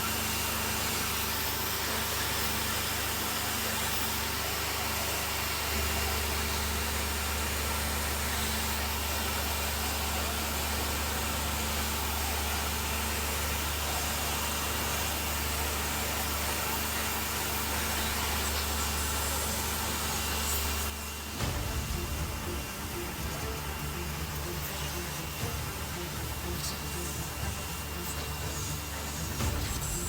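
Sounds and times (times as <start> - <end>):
pressure washer motor hum: 0.0 - 30.0.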